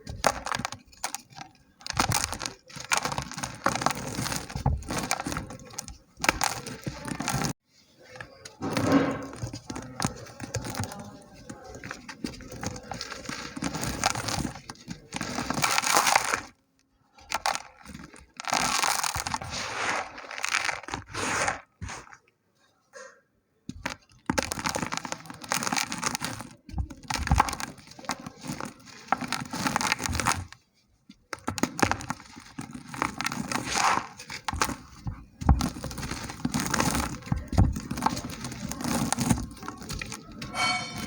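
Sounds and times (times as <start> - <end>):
dry dirt being crumbled: 0.0 - 22.2, 23.7 - 41.0.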